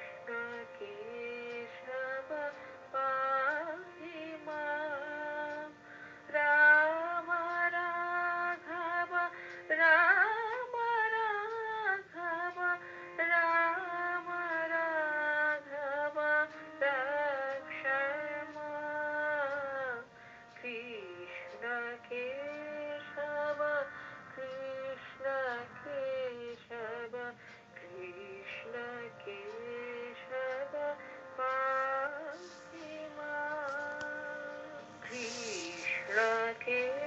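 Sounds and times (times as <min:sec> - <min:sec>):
woman singing with vibrato: 0:00.0 - 0:37.0.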